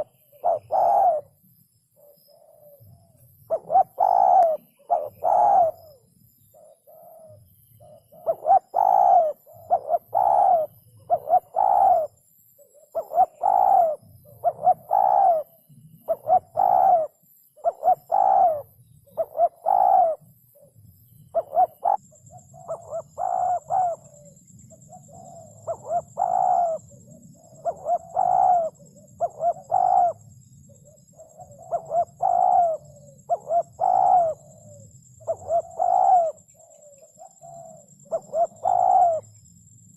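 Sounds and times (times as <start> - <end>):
dove cooing: 0.0 - 39.4.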